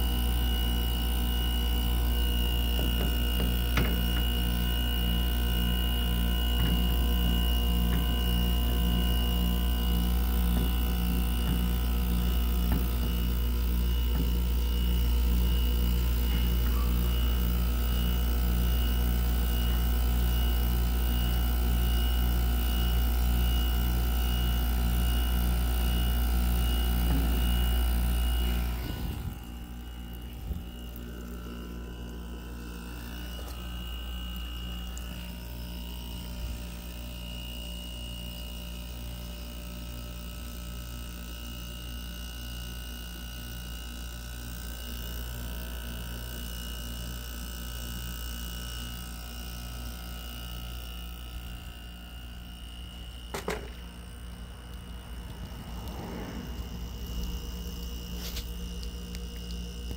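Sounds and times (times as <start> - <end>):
heat pump click: 0.0 - 37.5, 48.2 - 59.9
heat pump humming with whine: 0.0 - 59.9.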